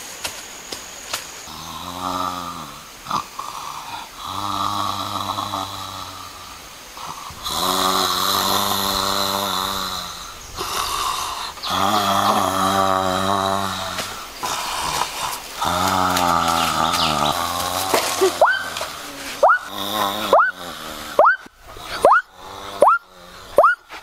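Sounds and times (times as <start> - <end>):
person snoring: 1.5 - 18.2, 18.9 - 21.2, 21.8 - 23.6.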